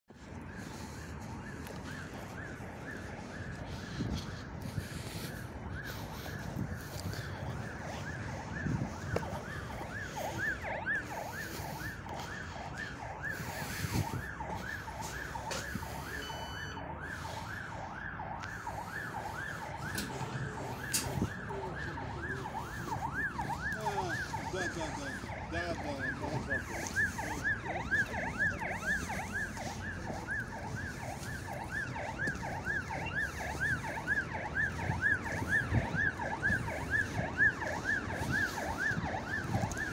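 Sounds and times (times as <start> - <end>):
electronic siren sweeping: 0.1 - 39.9.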